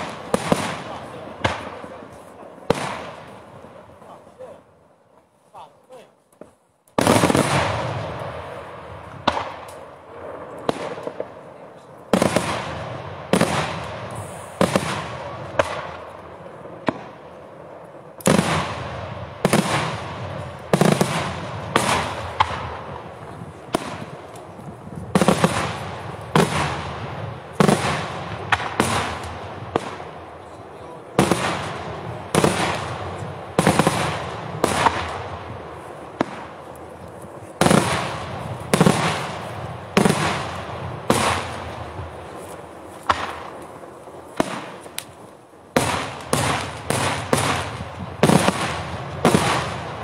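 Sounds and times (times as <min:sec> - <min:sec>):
fireworks bangs with rolling echo: 0:00.0 - 0:04.7, 0:05.6 - 0:50.0.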